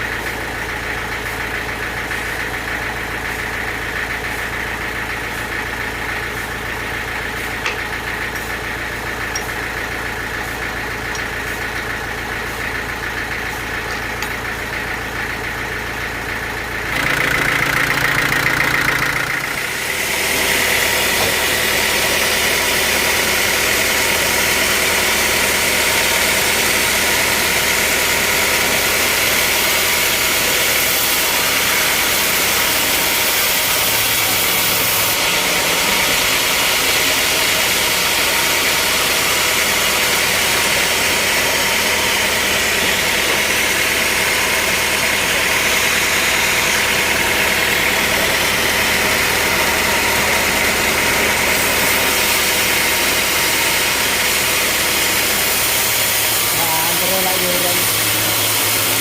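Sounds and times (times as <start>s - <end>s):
sawmill machinery running: 0.0s - 59.0s
high machine whine: 3.5s - 59.0s.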